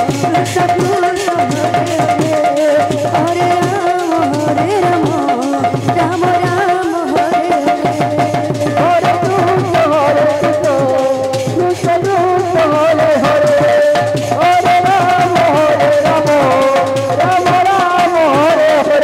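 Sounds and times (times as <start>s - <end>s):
hand drum strokes: 0.0s - 19.0s.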